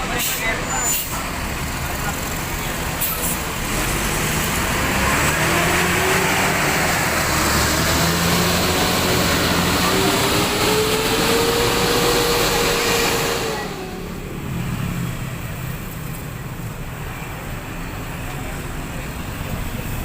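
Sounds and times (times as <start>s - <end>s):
bus passing close: 0.0s - 20.0s
engines idling rumble: 0.0s - 20.0s.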